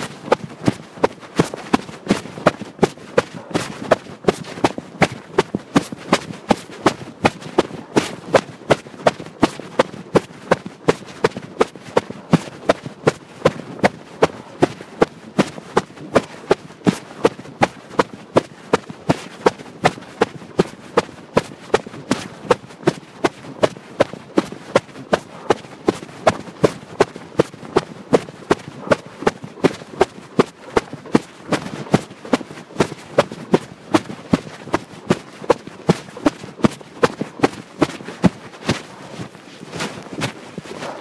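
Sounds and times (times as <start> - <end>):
hurried footsteps on pavement: 0.0 - 41.0.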